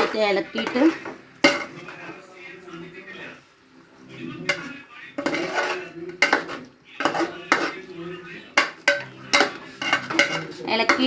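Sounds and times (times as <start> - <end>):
spoon scraping a cooking pot: 0.0 - 2.2, 4.2 - 11.0.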